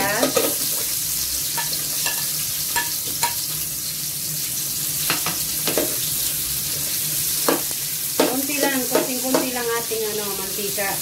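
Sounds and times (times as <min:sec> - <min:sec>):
onion and garlic sizzling in oil: 0:00.0 - 0:11.0.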